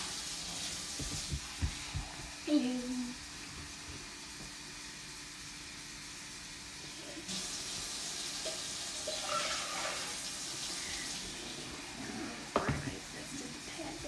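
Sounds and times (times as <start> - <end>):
water running from a tap: 0.0 - 14.0.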